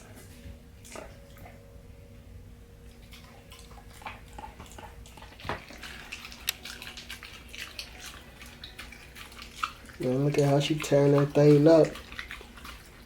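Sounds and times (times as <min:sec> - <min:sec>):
puppy chewing and crunching food: 0:00.0 - 0:01.9, 0:02.6 - 0:13.0.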